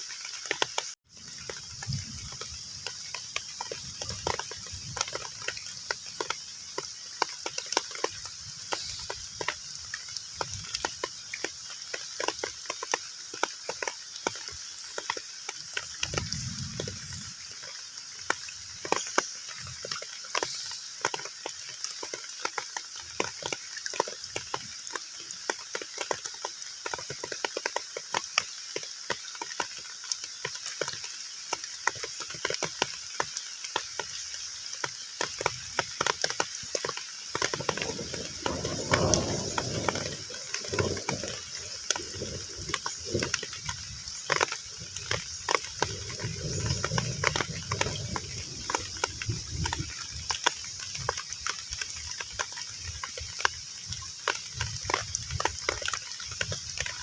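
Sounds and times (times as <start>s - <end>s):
heavy rain on a pond: 0.0s - 57.0s
raindrops plinking on water: 0.0s - 57.0s.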